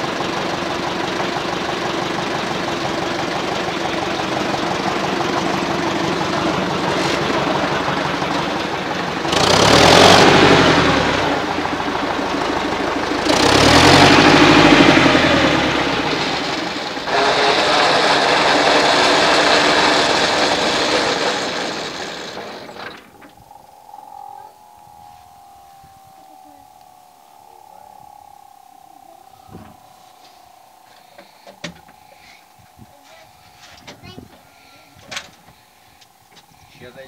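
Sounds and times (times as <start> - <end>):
tractor engine revving: 0.0 - 37.0.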